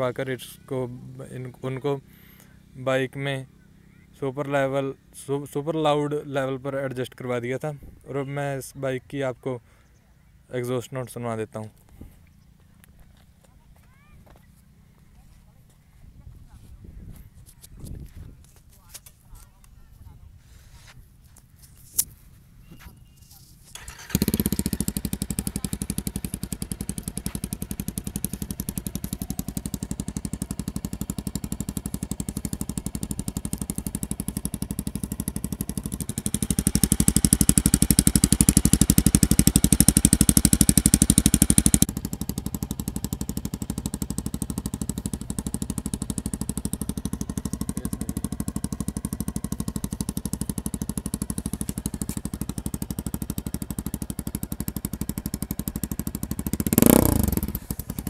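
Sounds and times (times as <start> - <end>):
motorcycle engine idling and revving: 0.0 - 8.0, 11.4 - 58.0.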